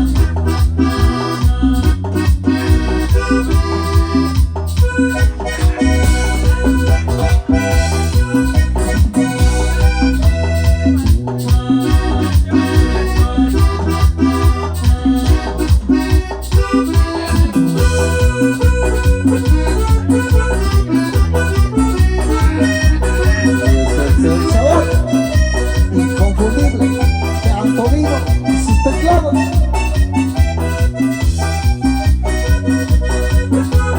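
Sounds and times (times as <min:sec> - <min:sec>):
electronic keyboard melody: 0:00.0 - 0:33.9
percussion beat: 0:00.0 - 0:33.9
steady bass: 0:00.0 - 0:33.9.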